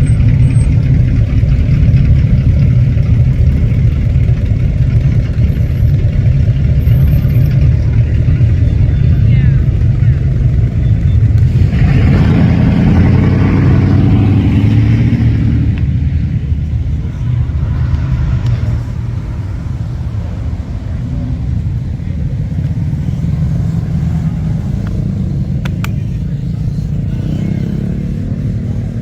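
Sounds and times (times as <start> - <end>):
car engines rumbling past: 0.0 - 29.0
rumble of traffic: 0.0 - 29.0.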